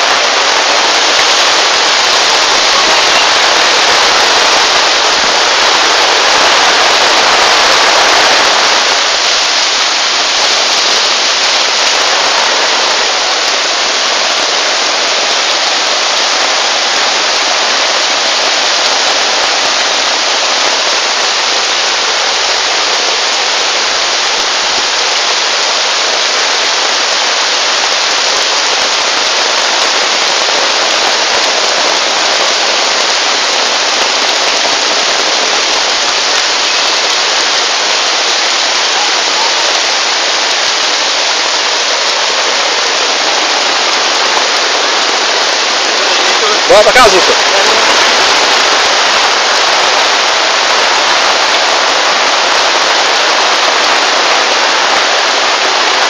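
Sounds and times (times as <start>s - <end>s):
floodwater rushing: 0.0s - 56.0s
heavy rain: 0.0s - 56.0s.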